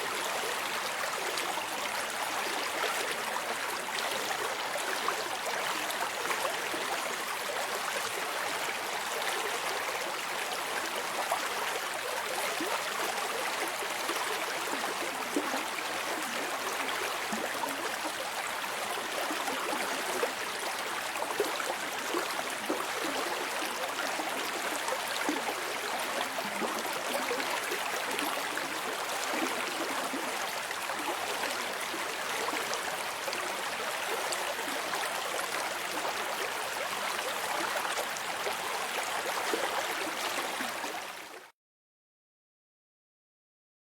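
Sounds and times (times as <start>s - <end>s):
stream water running and gurgling: 0.0s - 41.5s.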